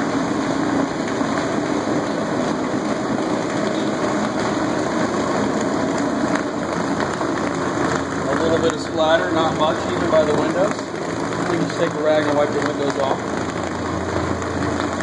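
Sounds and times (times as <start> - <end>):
floor machine motor hum: 0.0 - 15.0.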